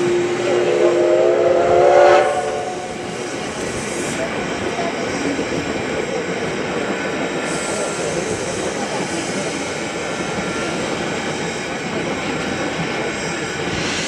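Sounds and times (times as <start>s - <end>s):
steam locomotive roar of steam: 0.0s - 14.0s.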